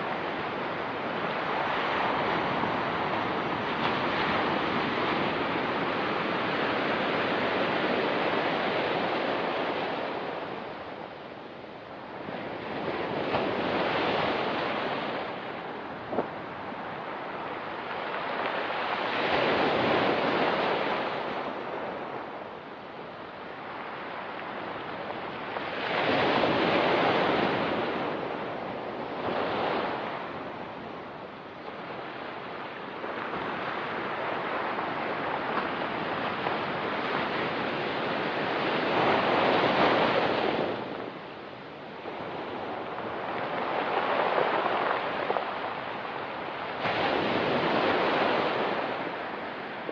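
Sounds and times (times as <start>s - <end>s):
surf on pebble beach: 0.0s - 49.9s.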